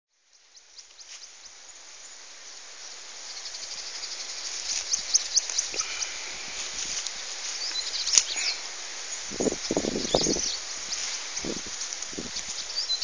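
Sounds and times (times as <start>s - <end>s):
birds chirping: 0.1s - 13.0s
insect hiss: 0.1s - 13.0s.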